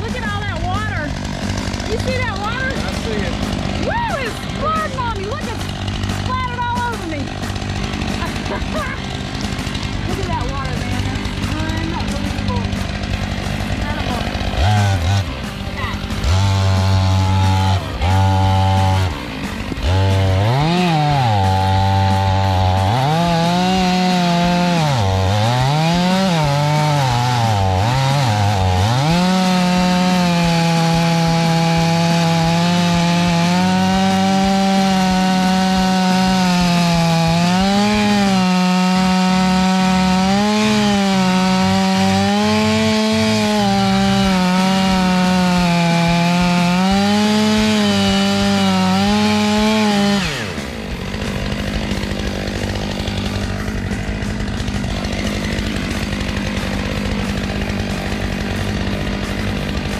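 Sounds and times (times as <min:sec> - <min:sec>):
chainsaw revving and cutting log: 0:00.0 - 0:59.9.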